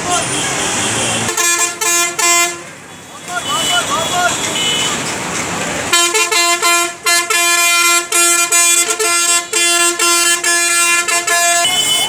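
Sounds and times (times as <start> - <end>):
street and crowd noise: 0.0 - 12.0
vehicle horn honking: 0.2 - 5.0, 5.9 - 12.0.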